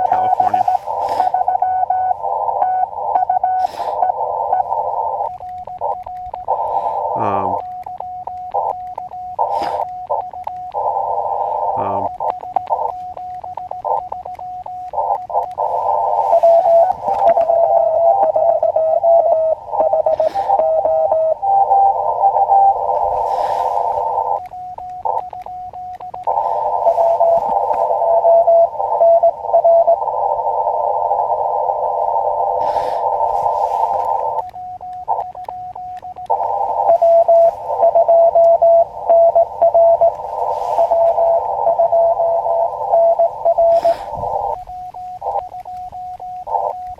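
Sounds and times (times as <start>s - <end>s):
morse code tones: 0.0s - 46.9s
radio band hiss: 0.0s - 46.9s
radio sidetone bursts: 0.0s - 46.9s.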